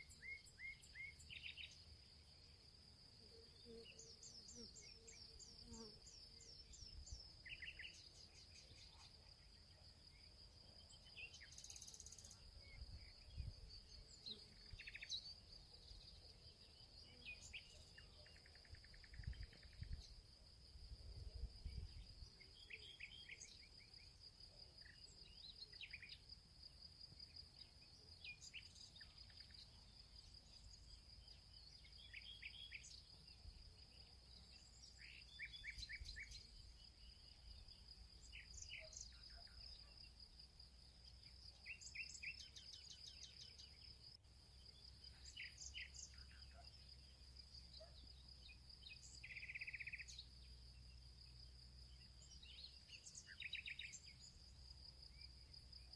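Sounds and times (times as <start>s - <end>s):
faint songbirds chirping and trilling: 0.0s - 55.9s.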